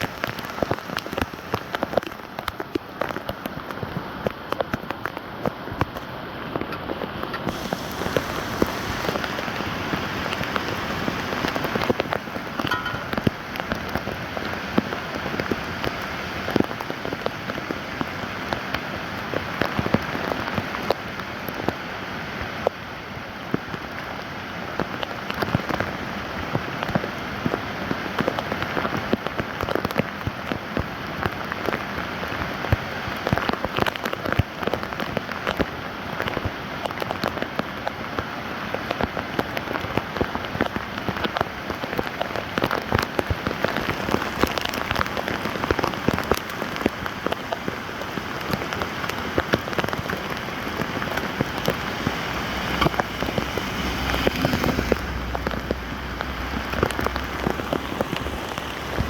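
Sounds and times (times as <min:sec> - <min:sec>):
raindrops hitting standing water: 0:00.0 - 0:59.0
steady rain falling: 0:00.0 - 0:59.0.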